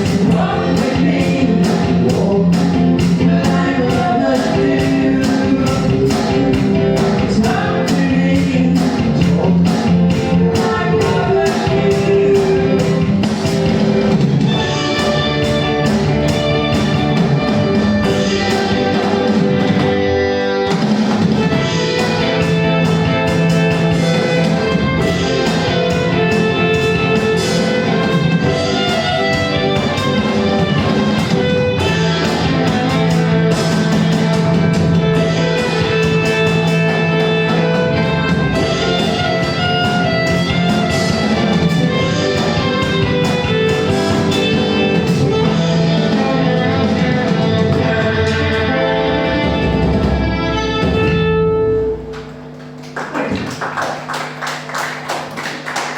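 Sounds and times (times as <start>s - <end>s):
drum kit beat: 0.0s - 55.9s
electric guitar: 0.0s - 55.9s.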